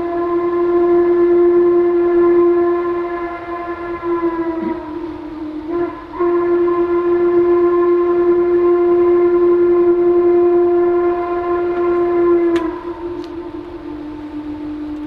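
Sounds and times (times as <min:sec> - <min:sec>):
steam locomotive whistle: 0:00.0 - 0:15.0.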